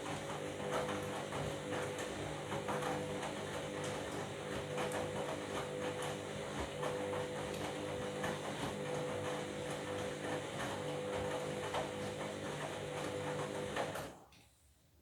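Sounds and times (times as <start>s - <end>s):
washing machine running: 0.0s - 14.2s.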